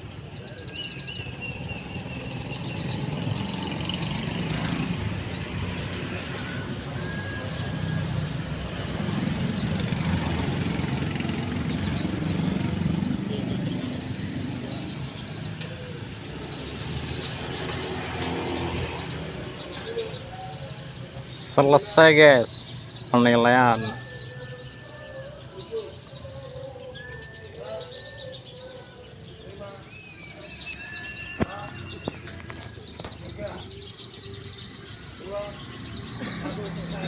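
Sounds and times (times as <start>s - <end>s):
songbirds chattering: 0.0s - 37.0s.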